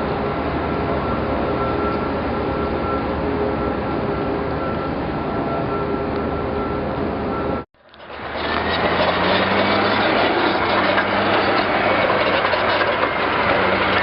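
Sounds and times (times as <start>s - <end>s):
heavy diesel engine running: 0.1s - 14.0s.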